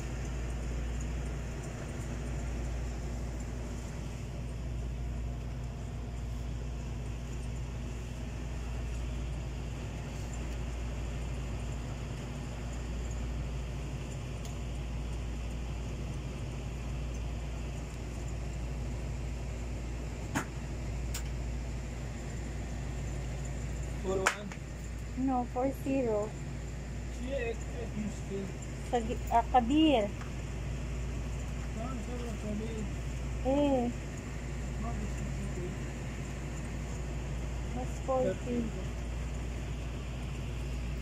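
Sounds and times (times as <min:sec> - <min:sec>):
low hum of shop background: 0:00.0 - 0:41.0.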